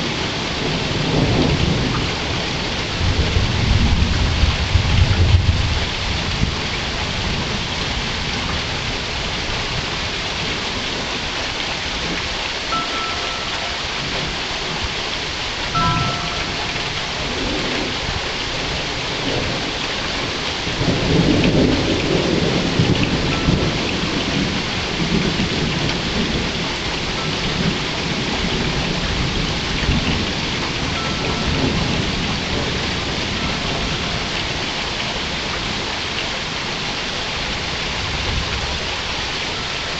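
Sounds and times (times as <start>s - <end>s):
steady rain: 0.0s - 39.9s
thunder rumbling: 0.3s - 9.4s, 12.0s - 35.8s.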